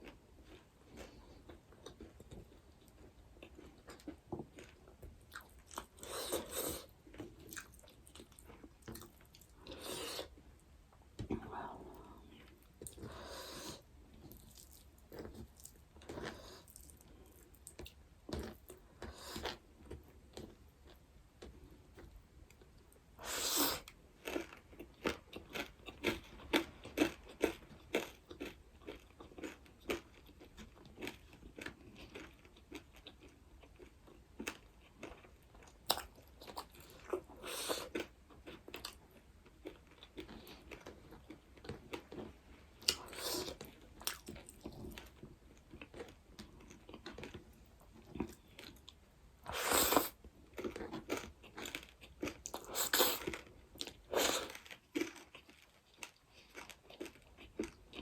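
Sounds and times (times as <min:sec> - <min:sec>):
person chewing crunchy food: 0:00.0 - 0:10.5, 0:11.7 - 0:21.8, 0:23.2 - 0:58.0.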